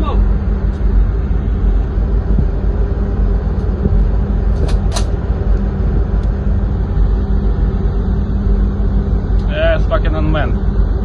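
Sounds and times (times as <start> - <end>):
ship machinery rumble and hum: 0.0 - 11.0
wind buffeting microphone: 0.0 - 11.0.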